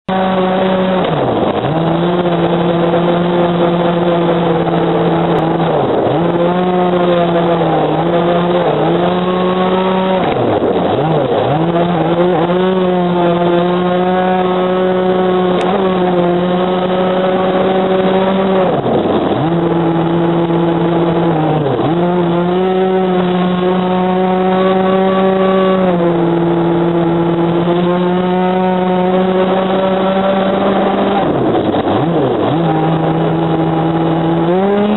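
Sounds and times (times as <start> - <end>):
two-stroke boat engine revving: 0.0 - 34.9.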